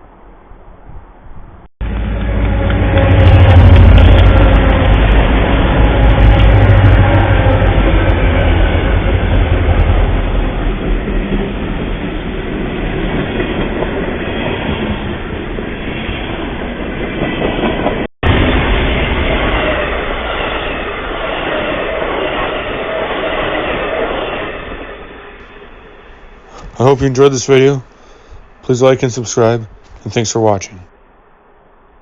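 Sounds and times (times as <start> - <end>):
train passing rumble: 0.0 - 32.0.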